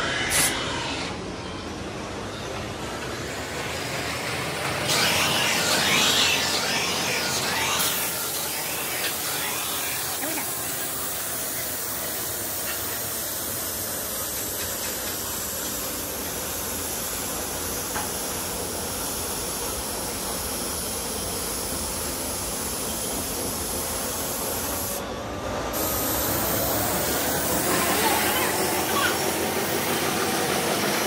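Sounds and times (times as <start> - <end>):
spray gun hissing paint: 4.8 - 25.0, 25.7 - 31.0.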